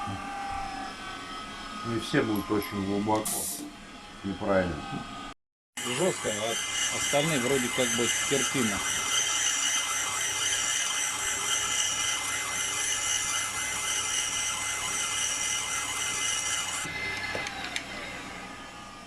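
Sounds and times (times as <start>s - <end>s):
grinding machine whining: 0.0s - 3.2s, 3.8s - 19.0s.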